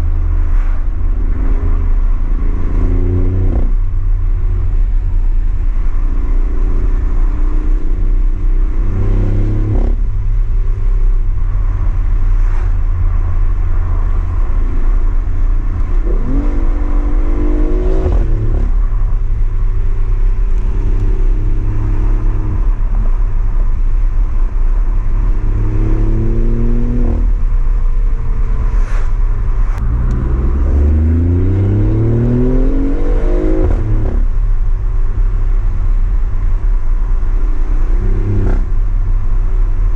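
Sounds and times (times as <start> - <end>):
car engine accelerating: 0.0 - 39.9
road rumble: 0.0 - 39.9.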